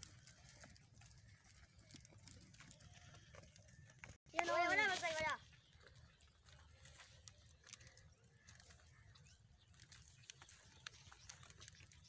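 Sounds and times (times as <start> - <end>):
goats clicking and rustling: 0.0 - 12.0.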